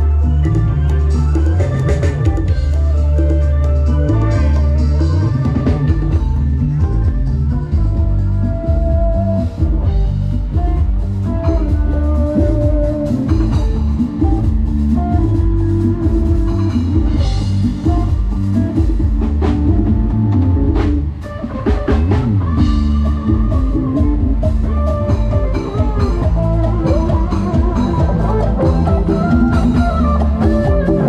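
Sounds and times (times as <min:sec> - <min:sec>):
drums: 0:00.0 - 0:31.0
electric bass: 0:00.0 - 0:31.0
electric guitars: 0:00.0 - 0:31.0
live band over loudspeakers: 0:00.0 - 0:31.0.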